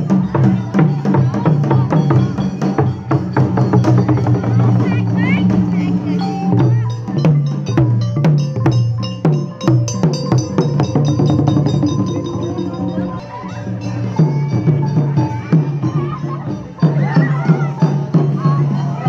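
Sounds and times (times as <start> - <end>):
drums and percussion beating: 0.0 - 19.0
sustained instrumental tones: 0.0 - 19.0.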